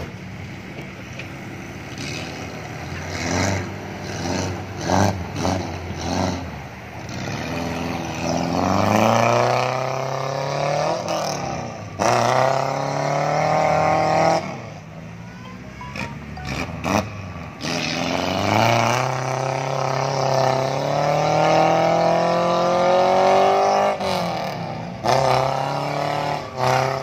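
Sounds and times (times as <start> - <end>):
jeep engine revving: 0.0 - 15.2, 15.8 - 27.0.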